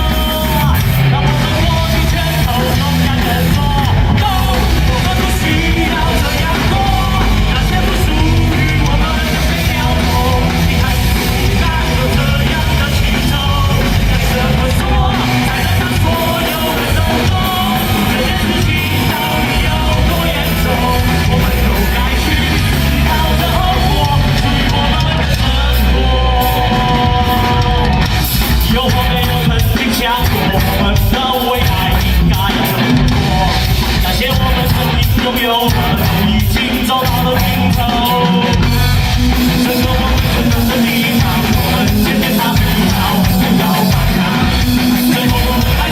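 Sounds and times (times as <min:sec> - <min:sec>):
rock band playing loudly: 0:00.0 - 0:45.9
shouted singing: 0:00.0 - 0:45.9.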